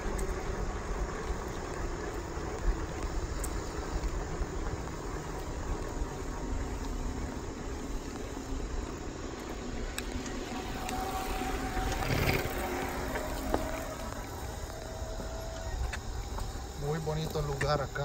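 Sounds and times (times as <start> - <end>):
faint steady whine: 0.0 - 18.0.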